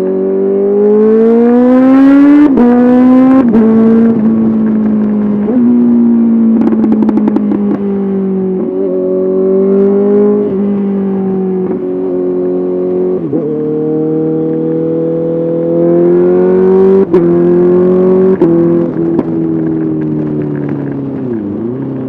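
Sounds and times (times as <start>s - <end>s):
motorcycle engine running: 2.4s - 22.0s.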